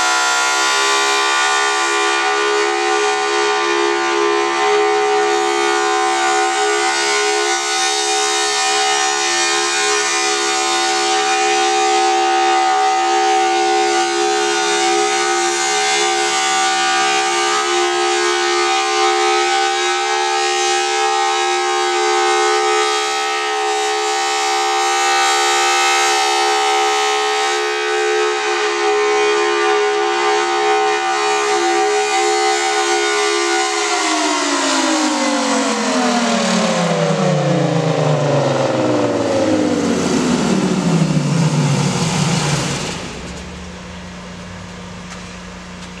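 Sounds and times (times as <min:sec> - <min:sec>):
warning siren winding down: 0:00.0 - 0:45.1.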